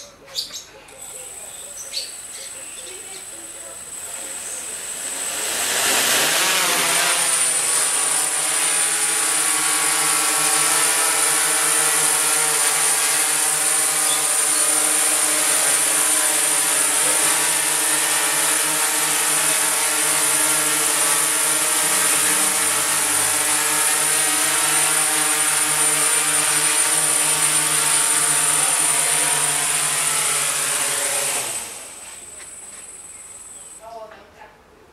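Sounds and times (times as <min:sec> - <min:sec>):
drone propellers buzzing: 0:01.4 - 0:33.8.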